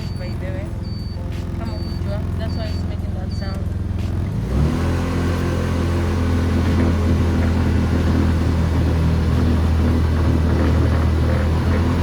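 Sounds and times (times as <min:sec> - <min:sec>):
road and wind noise: 0:00.0 - 0:12.0
small engine running steadily: 0:00.0 - 0:12.0.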